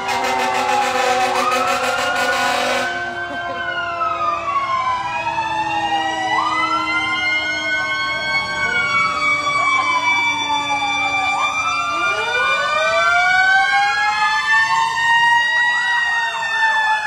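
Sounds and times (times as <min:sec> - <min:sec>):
emergency sirens wailing: 0:00.0 - 0:17.0.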